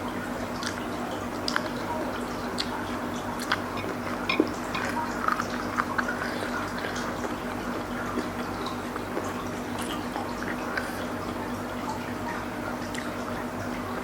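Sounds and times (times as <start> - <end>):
steady low hum: 0.0 - 14.0
wet chewing and smacking: 0.5 - 12.0.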